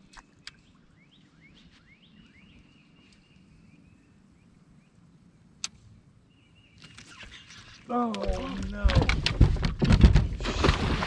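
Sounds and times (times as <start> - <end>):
faint birdsong: 0.0 - 8.9.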